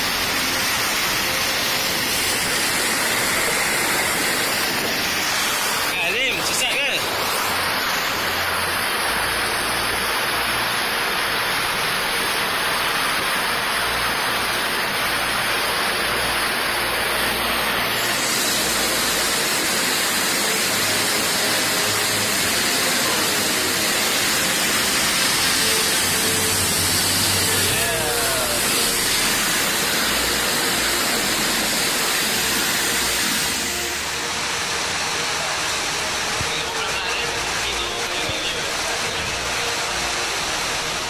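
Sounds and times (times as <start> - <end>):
river rapids rushing: 0.0 - 41.0.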